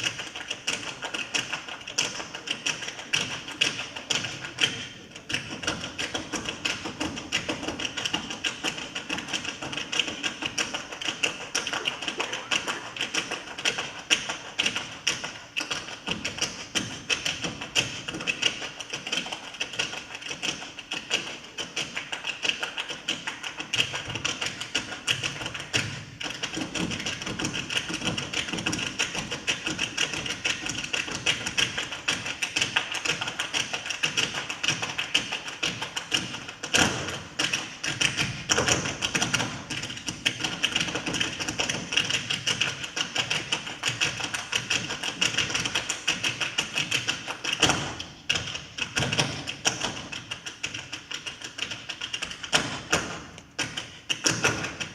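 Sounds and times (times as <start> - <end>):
dancers tapping and thudding: 0.0 - 54.9.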